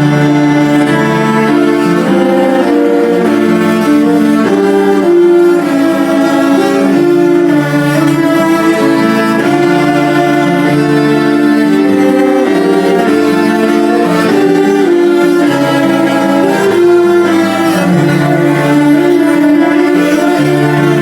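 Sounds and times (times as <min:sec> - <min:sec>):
cellos playing a melody: 0:00.0 - 0:21.0.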